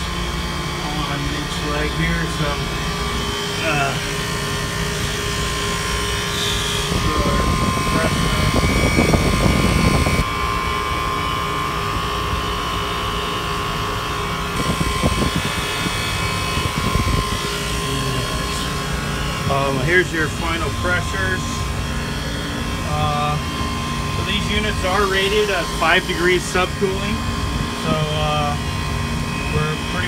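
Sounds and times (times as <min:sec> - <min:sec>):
refrigeration unit humming: 0:00.0 - 0:30.0.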